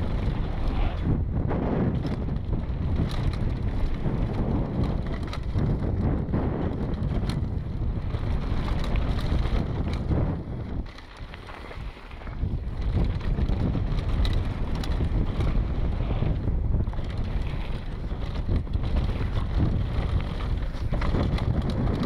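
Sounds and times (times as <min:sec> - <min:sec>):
bike clicks and rattles: 0:00.0 - 0:22.0
bike tyre noise on gravel: 0:00.0 - 0:22.0
wind buffeting microphone: 0:00.0 - 0:22.0.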